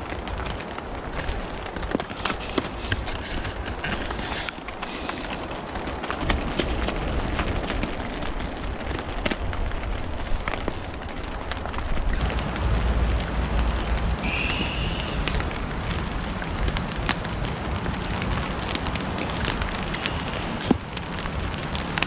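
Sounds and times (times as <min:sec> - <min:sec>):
rain falling in woods: 0:00.0 - 0:22.0
wind rumble on microphone: 0:00.0 - 0:22.0.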